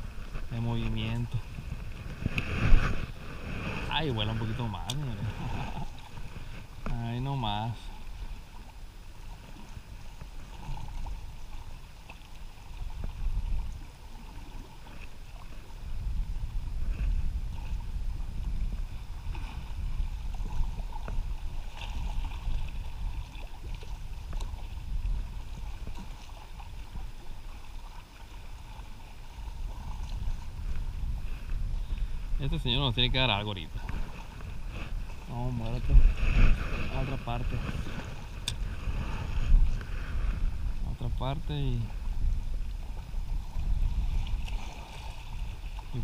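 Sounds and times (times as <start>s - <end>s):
sea water lapping against rocks: 0.0s - 46.0s
wind buffeting microphone: 0.0s - 46.0s.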